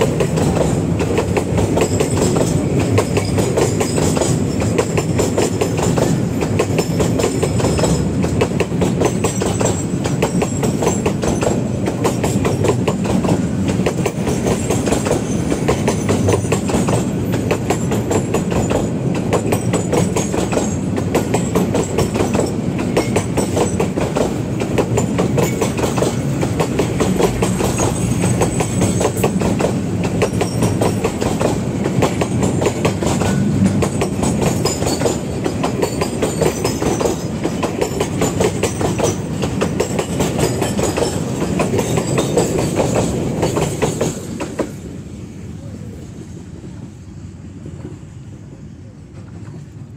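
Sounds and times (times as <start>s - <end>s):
train wheels clattering on rails: 0.0s - 45.2s.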